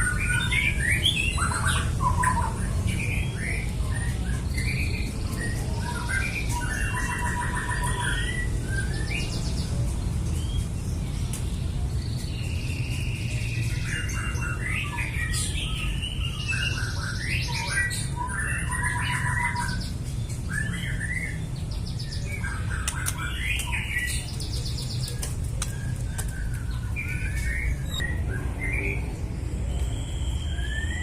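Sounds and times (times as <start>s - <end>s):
bird singing in varied phrases: 0.0s - 31.0s.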